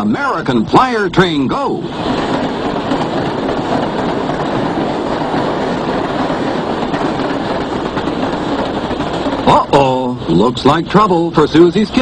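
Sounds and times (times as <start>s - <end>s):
model train rattling clatter: 0.0s - 12.0s.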